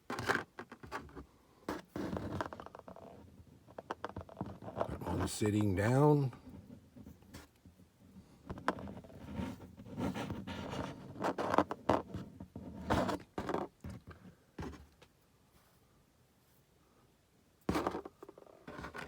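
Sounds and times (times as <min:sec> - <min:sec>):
plastic figures and packaging rustling: 0:00.0 - 0:15.8, 0:17.7 - 0:19.0.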